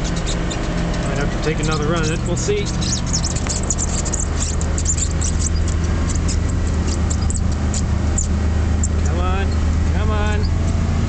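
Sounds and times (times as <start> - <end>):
sharp clicks and crackles: 0.0 - 10.8
truck engine running: 0.0 - 11.0.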